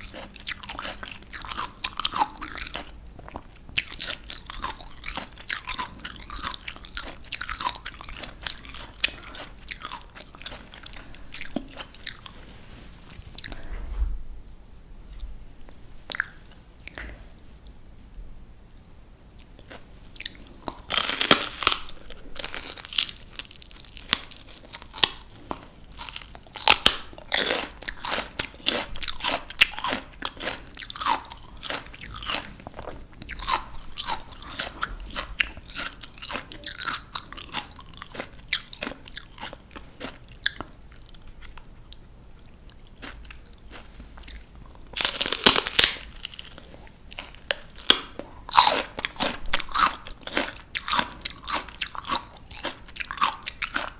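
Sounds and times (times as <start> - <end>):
person crunching raw vegetables: 0.0 - 13.7, 19.4 - 53.9.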